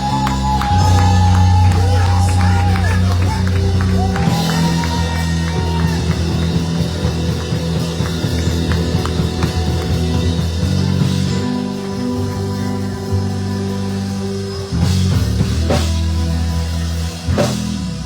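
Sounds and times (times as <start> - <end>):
church band music: 0.0 - 18.0
drums: 0.0 - 18.0
guitar: 0.0 - 18.0
held low chords: 0.0 - 18.0.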